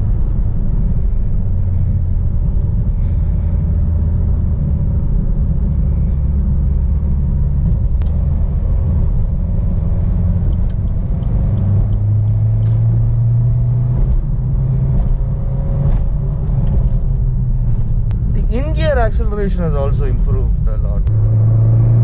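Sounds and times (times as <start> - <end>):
car engine and tyres droning: 0.0 - 22.0.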